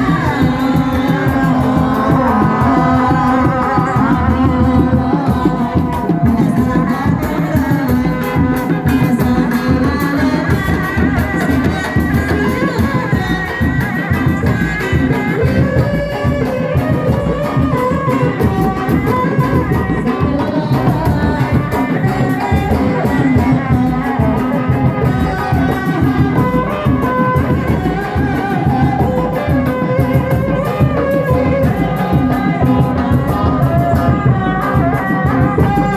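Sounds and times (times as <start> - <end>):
drums and instruments rhythm: 0.0 - 35.9
person singing: 0.0 - 35.9.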